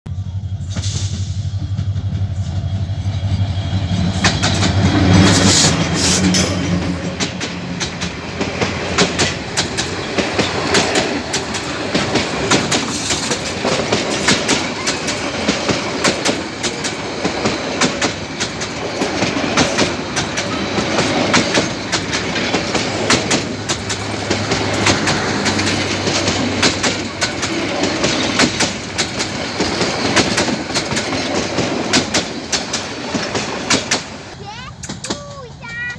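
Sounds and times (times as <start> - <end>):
diesel locomotive engine drone: 0.1 - 35.9
train wheels clattering on rails: 0.4 - 35.9.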